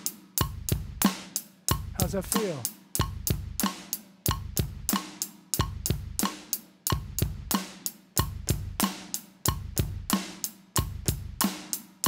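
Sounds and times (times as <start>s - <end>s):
drum kit playing a basic beat: 0.0s - 12.0s.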